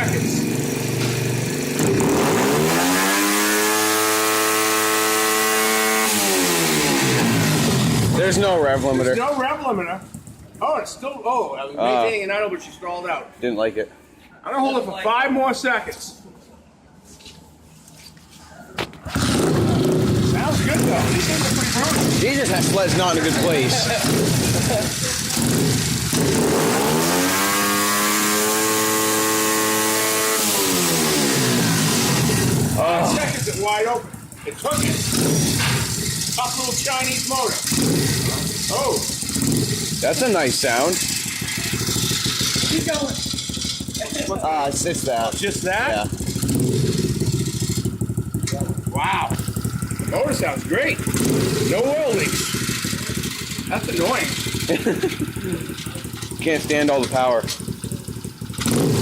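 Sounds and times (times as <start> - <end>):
single-cylinder engine revving: 0.0 - 9.1, 19.0 - 59.0.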